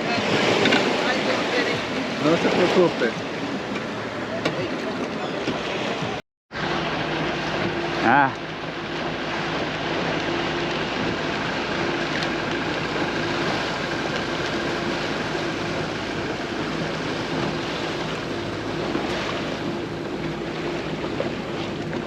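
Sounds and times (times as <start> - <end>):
boat engine humming: 0.0 - 22.0
wind and water rushing: 0.0 - 22.0.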